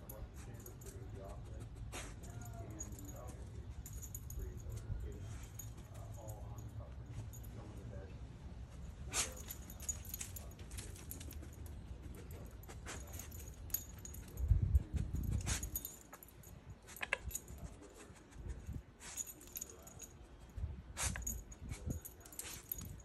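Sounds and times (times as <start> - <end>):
dog collar tags jingling: 0.0 - 23.0.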